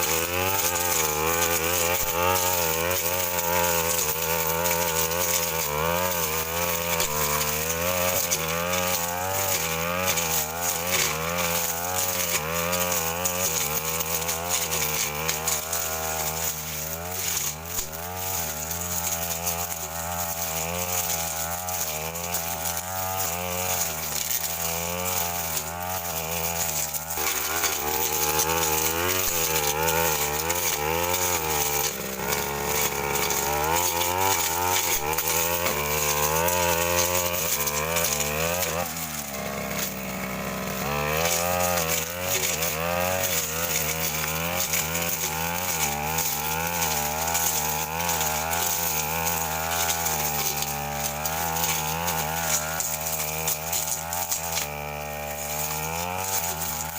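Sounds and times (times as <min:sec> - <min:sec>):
blade knocking stems: 0:00.0 - 0:56.9
brush cutter engine running: 0:00.0 - 0:56.9.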